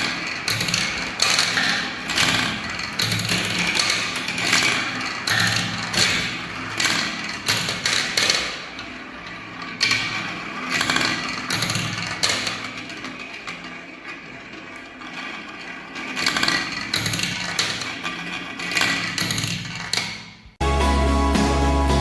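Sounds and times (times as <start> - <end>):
marbles clicking and clacking: 0.0 - 20.4
marbles rolling on a track: 0.0 - 20.4.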